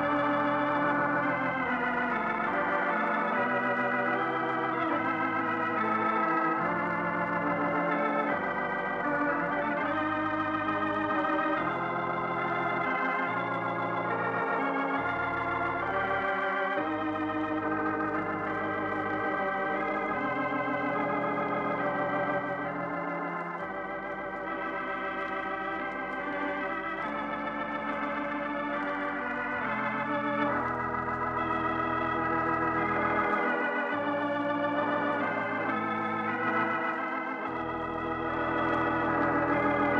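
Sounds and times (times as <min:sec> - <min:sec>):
organ music: 0:00.0 - 0:39.9.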